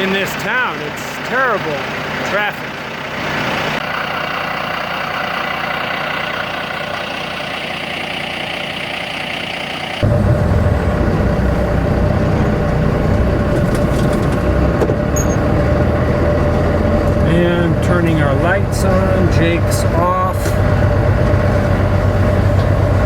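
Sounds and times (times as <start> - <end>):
diesel truck engine running: 0.0 - 23.0
steady engine whine: 0.0 - 23.0.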